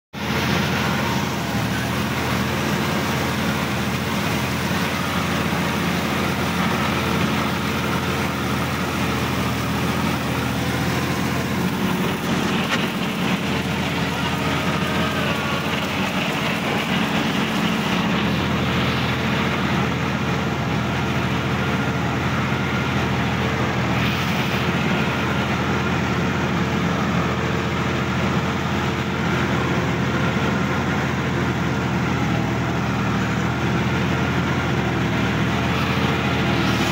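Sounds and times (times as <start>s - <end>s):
tractor diesel engine running: 0.1s - 36.9s.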